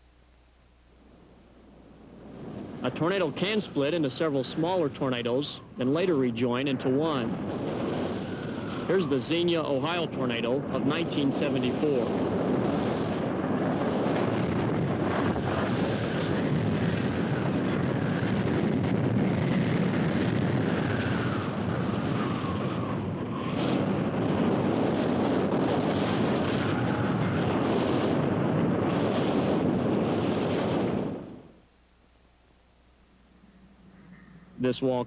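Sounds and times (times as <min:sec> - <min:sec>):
loud rushing tornado wind: 0:02.0 - 0:31.6.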